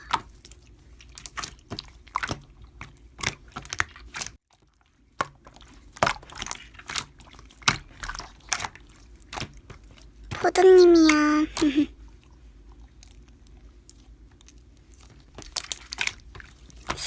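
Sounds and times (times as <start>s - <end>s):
slime squished by hand: 0.0s - 4.4s, 5.1s - 11.8s, 12.8s - 17.0s.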